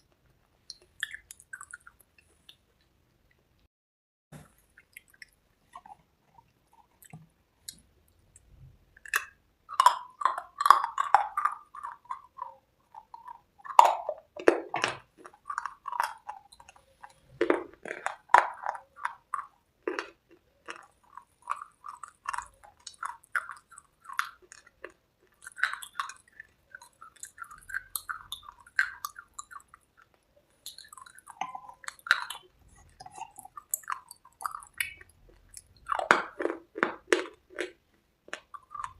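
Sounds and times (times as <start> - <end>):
chewing and crunching: 0.0 - 2.9, 4.6 - 38.9
wet mouth sounds: 0.7 - 2.7, 4.4 - 38.9.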